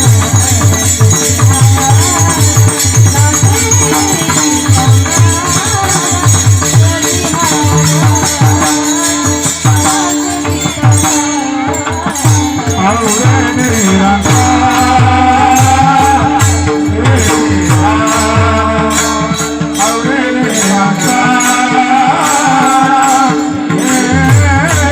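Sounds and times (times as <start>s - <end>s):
jingling percussion: 0.0s - 24.9s.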